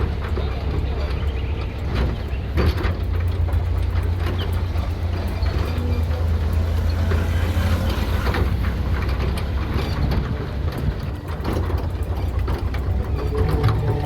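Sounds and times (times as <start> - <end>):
heavy engines rumbling: 0.0 - 14.0
knocks and clanks: 0.0 - 14.0.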